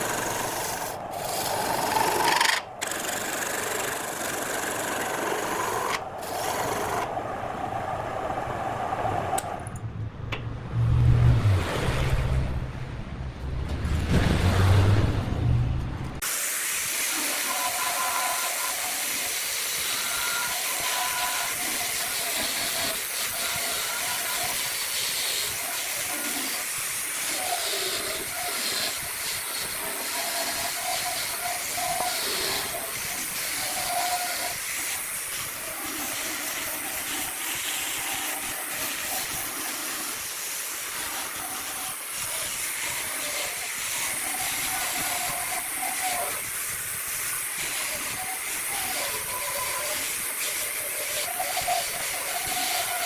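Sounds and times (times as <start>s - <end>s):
wood lathe hissing: 0.0s - 9.7s, 16.3s - 53.0s.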